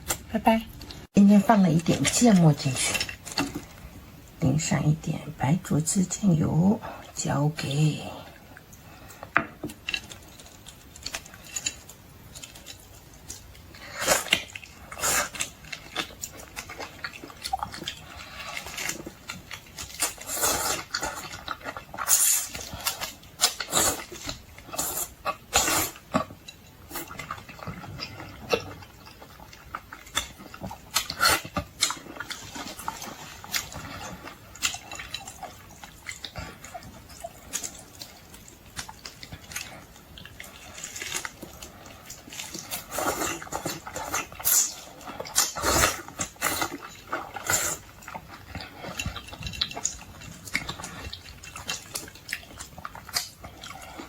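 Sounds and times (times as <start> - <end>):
chewing with wet smacks and crunches: 8.4 - 54.0.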